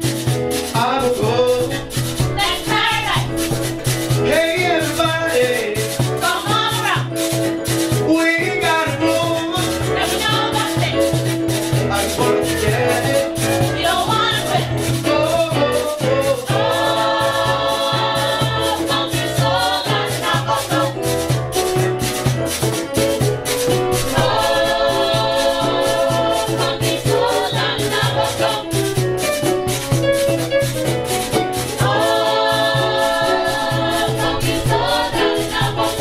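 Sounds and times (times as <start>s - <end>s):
music with singing: 0.0s - 36.0s
quick percussion beat: 0.0s - 36.0s.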